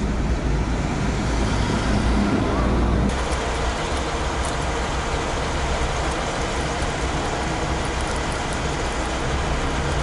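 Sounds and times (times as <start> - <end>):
traffic rumble inside car: 0.0 - 10.0.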